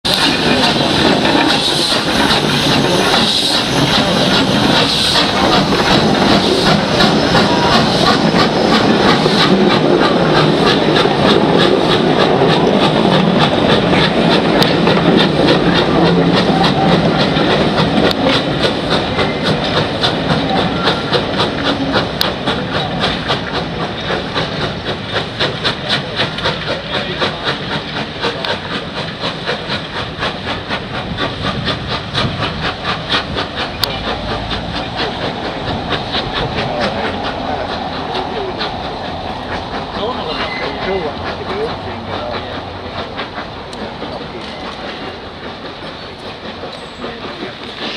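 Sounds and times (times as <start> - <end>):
steam hiss: 0.1 - 47.9
steam locomotive exhaust chuffs: 0.1 - 47.9.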